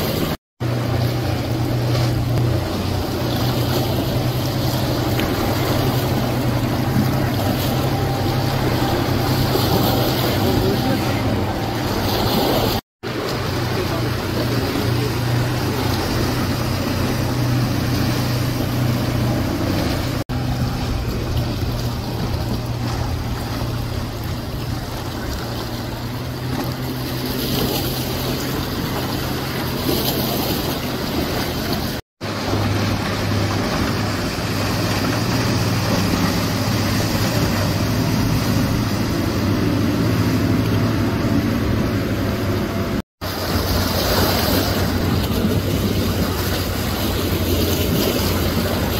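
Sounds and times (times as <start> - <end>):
motorboat engines droning: 0.0 - 48.9
rushing water from boat wakes: 0.0 - 48.9.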